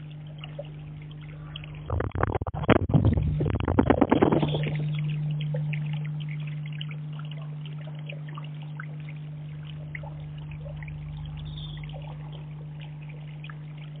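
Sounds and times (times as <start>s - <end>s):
steady low hum: 0.0s - 14.0s
water drips and trickles: 0.0s - 14.0s.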